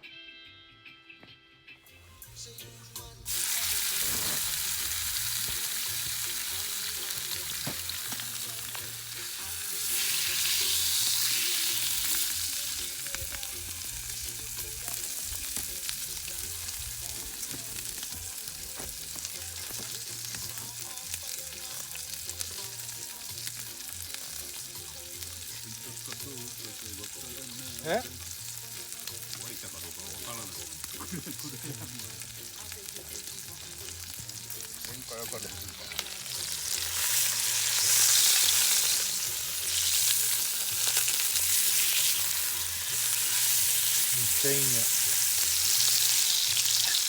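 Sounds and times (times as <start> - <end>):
food sizzling in a pan: 2.2 - 47.0.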